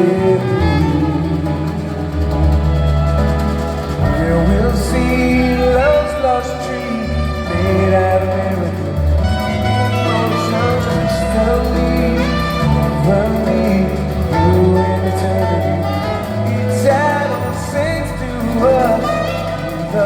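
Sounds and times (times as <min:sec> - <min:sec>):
bass notes: 0:00.0 - 0:20.0
gliding melodic line: 0:00.0 - 0:20.0.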